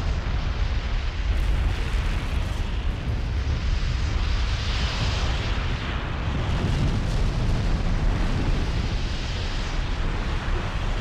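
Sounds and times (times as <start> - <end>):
heavy rumble of eruption: 0.0 - 11.0.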